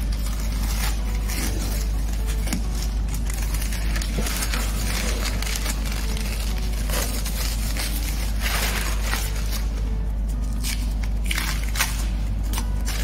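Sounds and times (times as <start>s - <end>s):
masking paper and tape crinkling: 0.0s - 13.0s.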